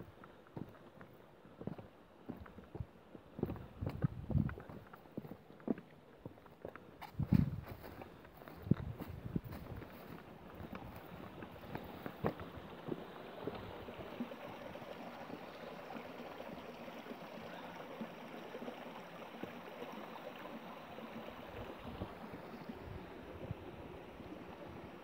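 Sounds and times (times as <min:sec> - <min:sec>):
stream running water: 0:00.0 - 0:25.0.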